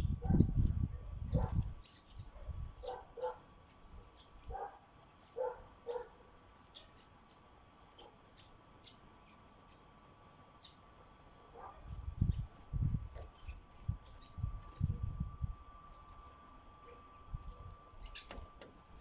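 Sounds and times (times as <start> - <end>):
low clipped bird calls: 0.0 - 9.9, 11.6 - 15.8, 16.8 - 19.0
sparrows chirping: 0.0 - 19.0.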